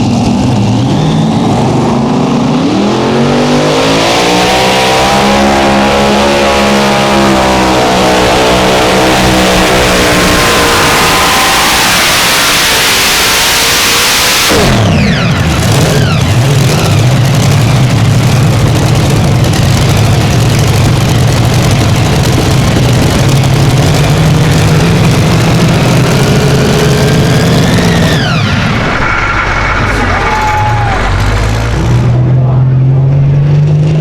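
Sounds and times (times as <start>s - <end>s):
engine revving under load: 0.0s - 34.0s.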